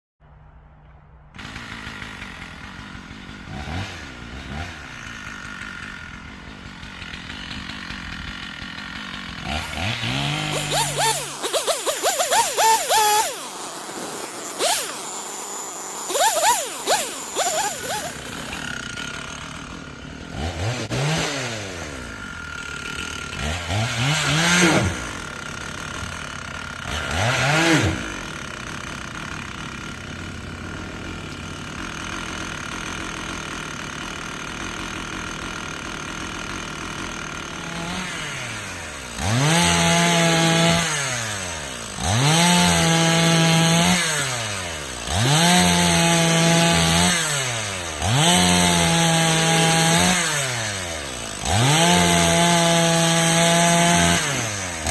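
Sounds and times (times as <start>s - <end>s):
chainsaw cutting wood: 1.3s - 54.9s
chainsaw revving and idling: 1.3s - 54.9s.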